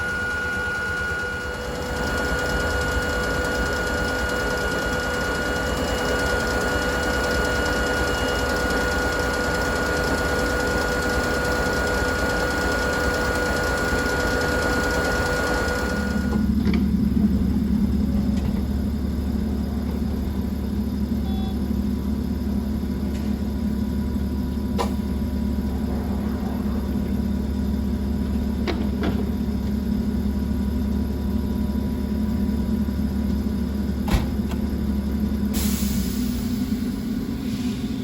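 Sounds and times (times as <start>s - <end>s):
railcar machinery humming: 0.0s - 38.0s.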